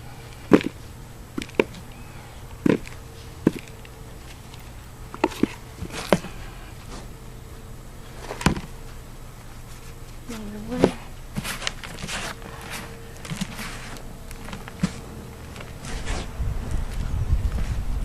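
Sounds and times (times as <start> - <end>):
knocks and scrapes in soil: 0.3 - 7.2, 9.7 - 17.9.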